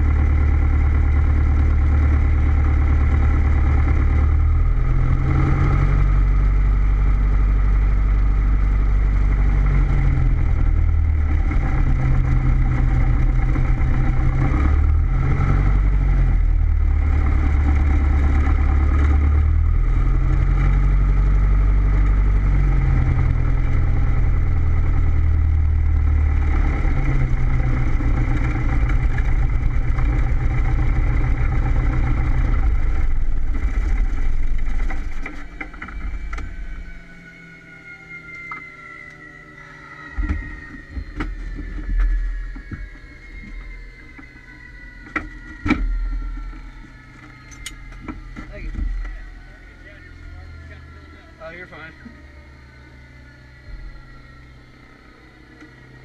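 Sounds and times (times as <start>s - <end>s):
plane engine idling: 0.0s - 56.0s.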